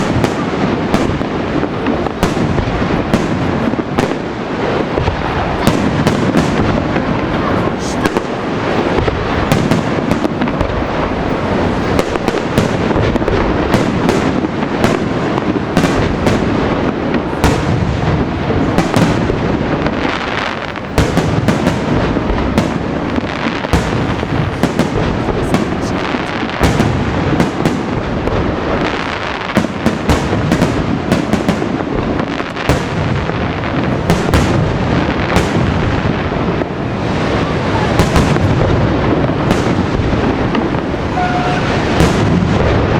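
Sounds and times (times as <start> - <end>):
fireworks booming rumble: 0.0 - 42.9
fireworks cracks and bangs: 0.0 - 42.9.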